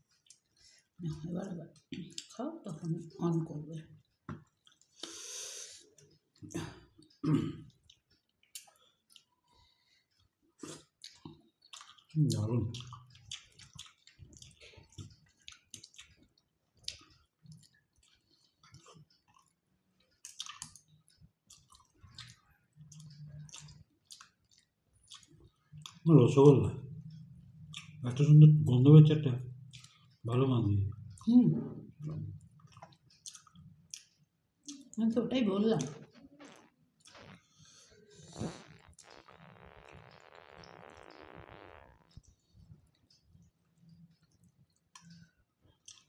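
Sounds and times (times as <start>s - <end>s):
mouth and chewing noises: 0.0s - 2.4s, 4.0s - 26.1s, 26.8s - 28.3s, 29.6s - 35.0s, 35.7s - 46.0s.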